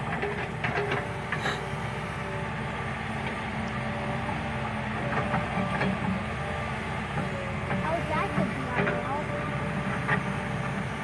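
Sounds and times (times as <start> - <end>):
excavator diesel engine: 0.0 - 11.0.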